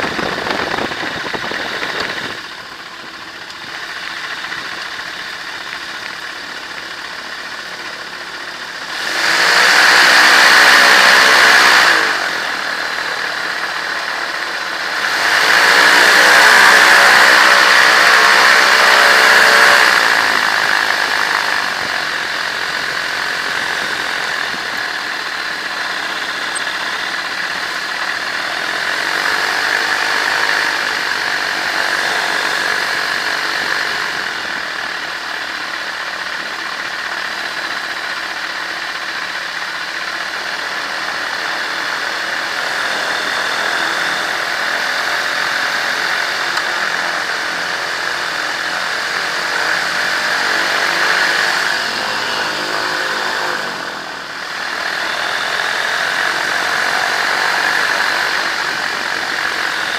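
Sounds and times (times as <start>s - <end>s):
microlight engine and propeller: 0.0s - 59.9s.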